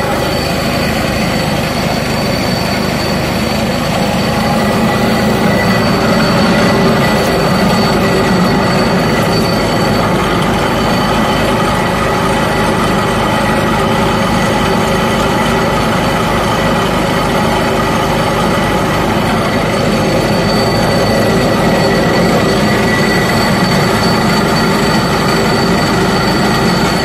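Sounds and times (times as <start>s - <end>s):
high machine whine: 0.0s - 27.0s
tractor engine: 0.0s - 27.0s.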